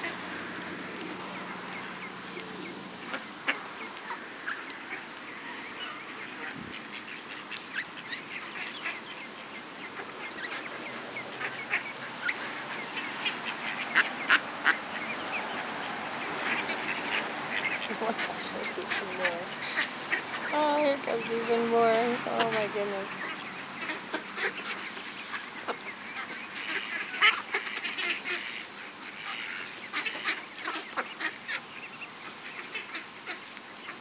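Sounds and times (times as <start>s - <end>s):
ducks quacking: 0.0s - 34.0s.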